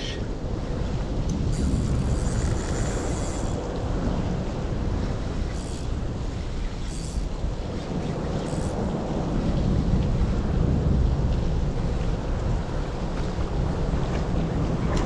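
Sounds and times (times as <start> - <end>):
river water: 0.0 - 15.0
wind rumbling on microphone: 0.0 - 15.0.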